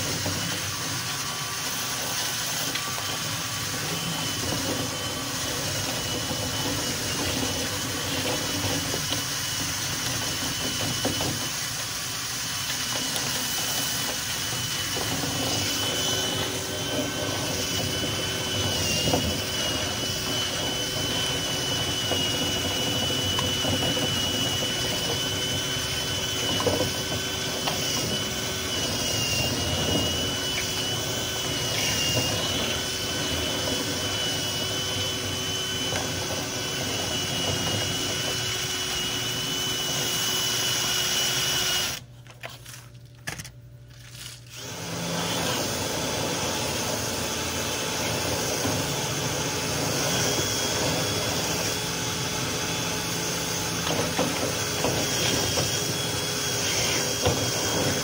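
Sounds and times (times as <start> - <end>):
power drill running: 0.0 - 42.1, 44.2 - 58.0.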